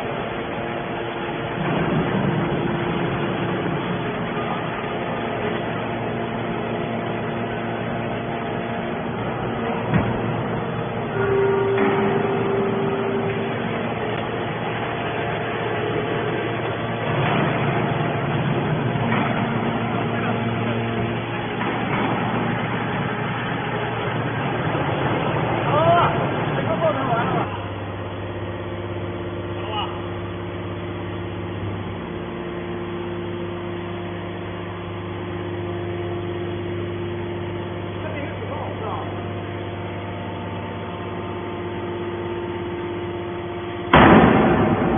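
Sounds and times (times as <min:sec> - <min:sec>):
hydraulic baler running: 0:00.0 - 0:44.9
machine whine: 0:00.0 - 0:44.9.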